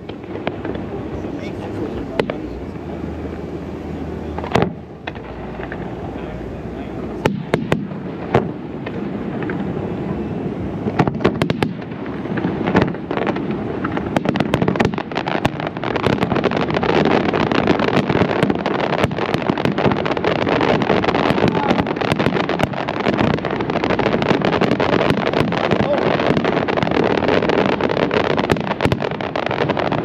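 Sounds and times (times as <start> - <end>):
fireworks bangs and cracks: 0.0 - 30.0
steady rumbling background noise: 0.0 - 30.0.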